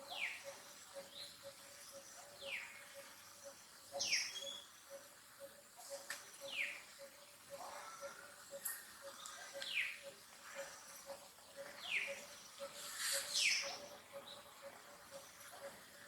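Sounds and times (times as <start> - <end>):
faint steady ticking: 0.0 - 16.0.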